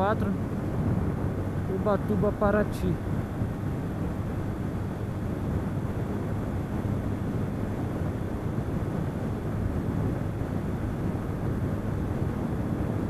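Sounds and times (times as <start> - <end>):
wind noise over microphone: 0.0 - 13.0.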